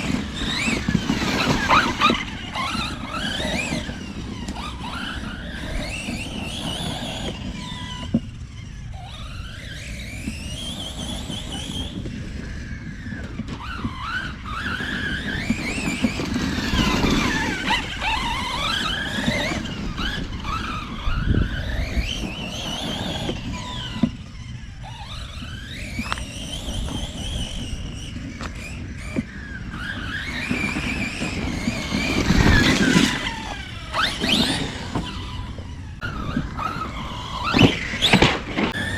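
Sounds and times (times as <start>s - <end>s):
rc truck motor whining: 0.0s - 38.9s
tires rumbling on ground: 0.0s - 38.9s.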